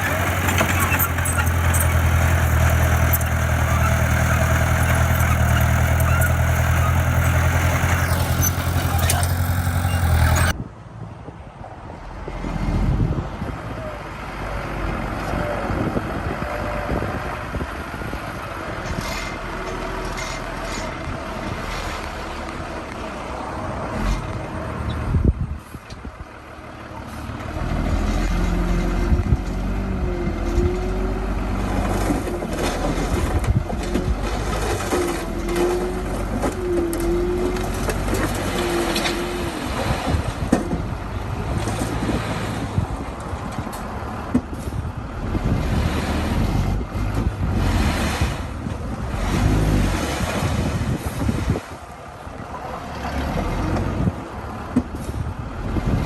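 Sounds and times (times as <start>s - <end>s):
heavy diesel engine under load: 0.0s - 10.7s, 11.5s - 56.0s.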